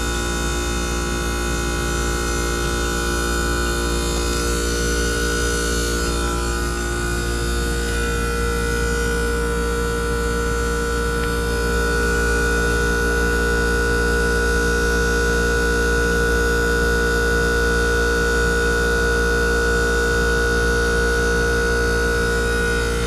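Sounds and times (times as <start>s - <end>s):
heat pump compressor hum: 0.0s - 23.0s
high whine: 0.0s - 23.0s.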